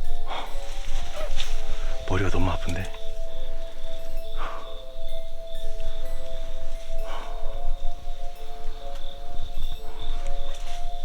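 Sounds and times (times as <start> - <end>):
music of held tones: 0.0 - 11.0.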